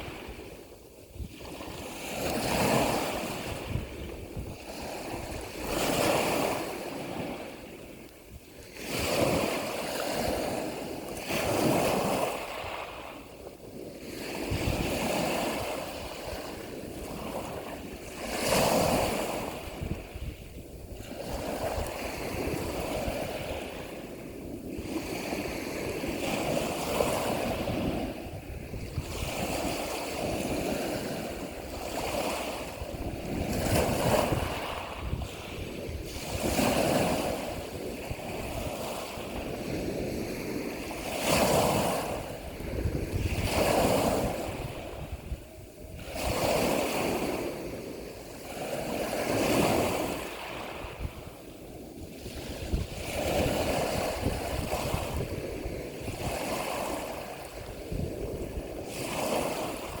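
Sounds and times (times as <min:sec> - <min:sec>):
ocean waves washing in: 0:00.0 - 1:00.0.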